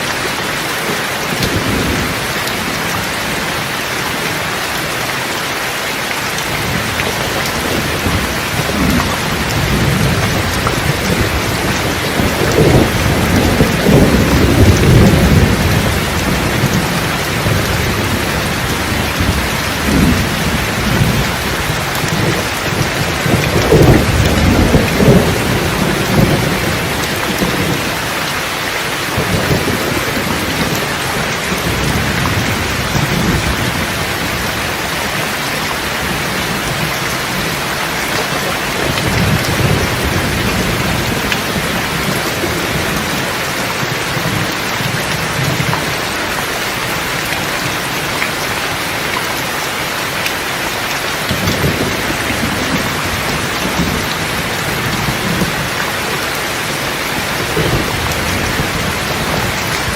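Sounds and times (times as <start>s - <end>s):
steady rain falling: 0.0s - 59.9s
thunder rolling: 6.5s - 28.3s, 28.9s - 35.2s, 35.8s - 48.2s, 51.3s - 59.9s.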